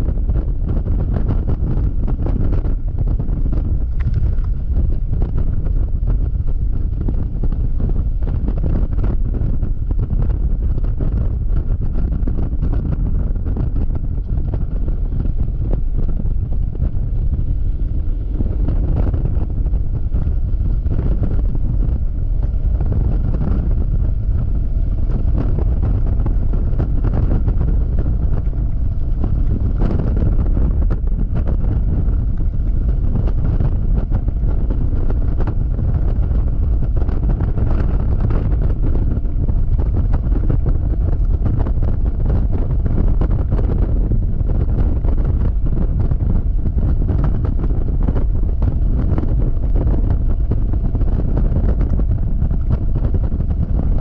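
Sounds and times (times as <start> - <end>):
wind buffeting a microphone: 0.0 - 54.0.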